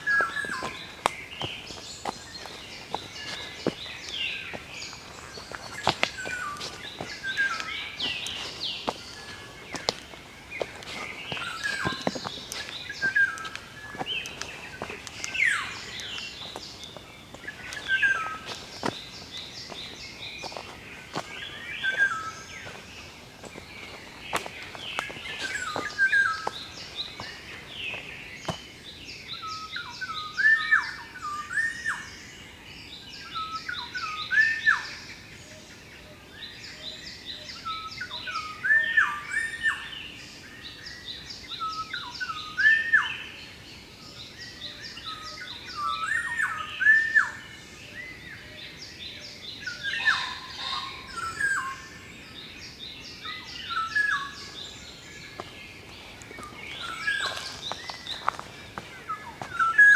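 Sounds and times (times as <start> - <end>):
wild birds calling: 0.0 - 32.1, 36.5 - 59.9.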